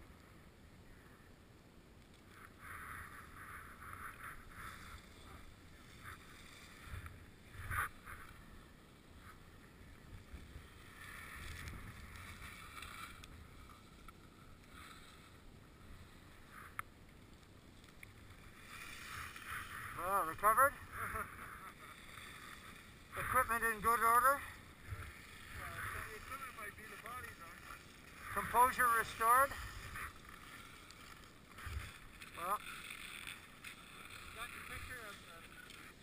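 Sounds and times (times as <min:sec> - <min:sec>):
skis scraping over snow: 0:02.2 - 0:36.0.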